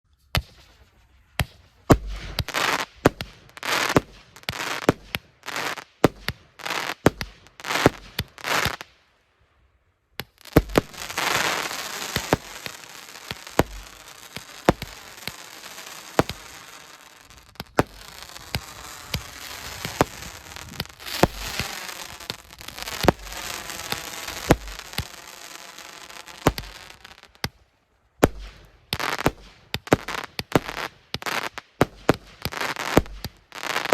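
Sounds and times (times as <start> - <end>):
fireworks shots and bursts: 0.2 - 9.2, 10.2 - 33.9.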